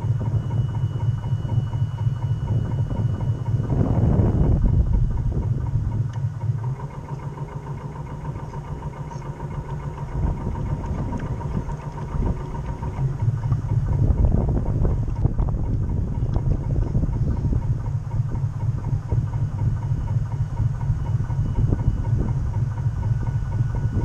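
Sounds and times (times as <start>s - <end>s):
model boat motor rumble: 0.0s - 24.0s
thin steady whine: 0.0s - 24.0s
water at the hull: 0.0s - 24.0s.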